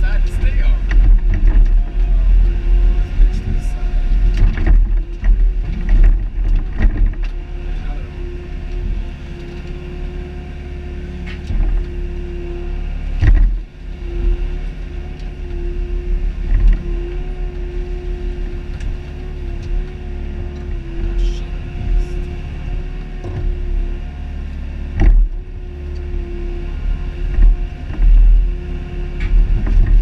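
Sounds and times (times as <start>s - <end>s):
excavator diesel engine and hydraulics: 0.0s - 30.0s.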